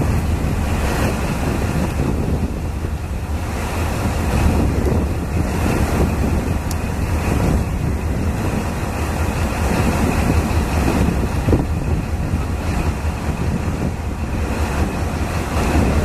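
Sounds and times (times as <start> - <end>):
diesel locomotive rumbling: 0.0 - 16.0
wind noise on microphone: 0.0 - 16.0.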